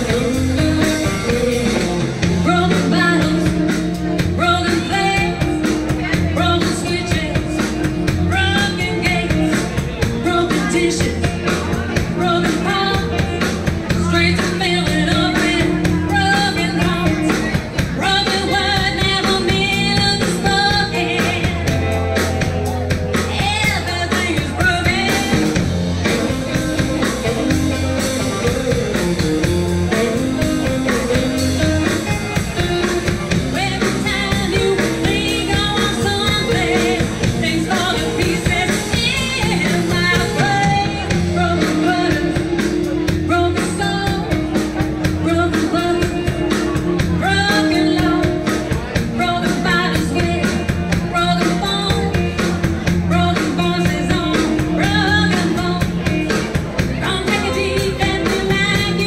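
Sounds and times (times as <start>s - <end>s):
woman singing: 0.0s - 22.3s, 23.1s - 29.2s, 29.9s - 59.0s
rockabilly band playing: 0.0s - 59.0s.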